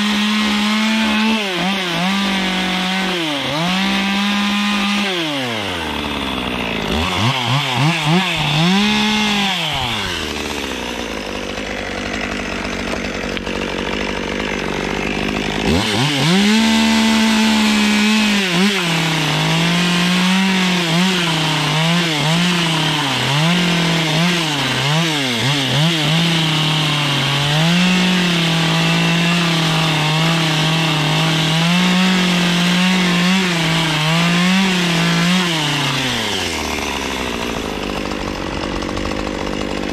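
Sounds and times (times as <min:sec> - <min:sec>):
chainsaw cutting wood: 0:00.0 - 0:39.9
chainsaw revving and idling: 0:00.0 - 0:39.9.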